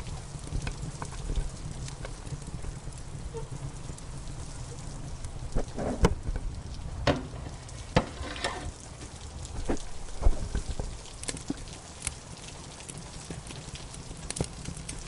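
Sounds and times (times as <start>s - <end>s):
rain hiss: 0.0s - 15.0s
wood fire crackling and popping: 0.0s - 15.0s.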